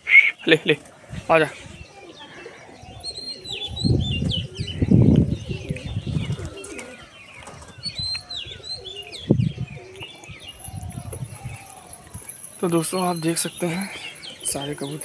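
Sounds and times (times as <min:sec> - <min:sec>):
birds chirping: 0:00.0 - 0:15.0
pigeons cooing: 0:00.0 - 0:15.0.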